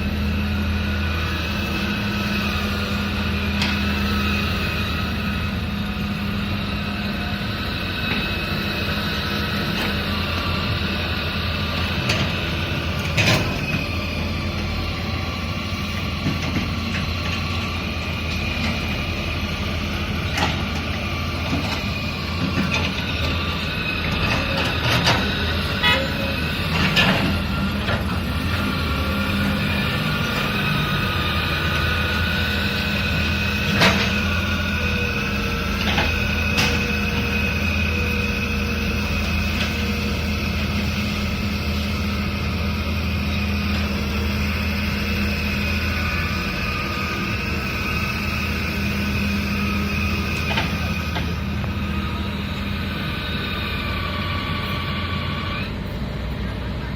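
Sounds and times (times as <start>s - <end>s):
diesel machinery running: 0.0s - 56.9s.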